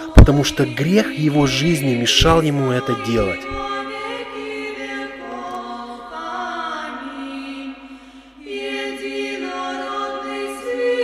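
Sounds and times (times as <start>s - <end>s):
voices singing held chords: 0.0s - 11.0s.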